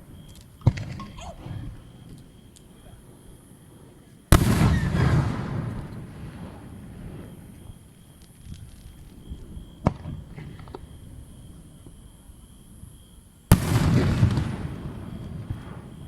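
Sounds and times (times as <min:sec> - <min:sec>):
fireworks popping and bursting: 0:00.0 - 0:12.0, 0:13.5 - 0:16.0
fireworks crackling: 0:00.0 - 0:12.1, 0:12.8 - 0:16.0.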